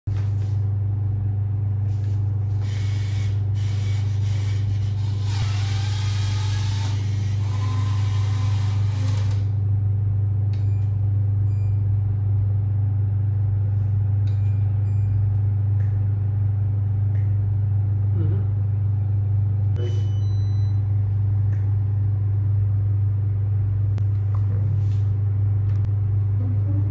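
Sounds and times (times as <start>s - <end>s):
vending machine humming: 0.1s - 26.9s.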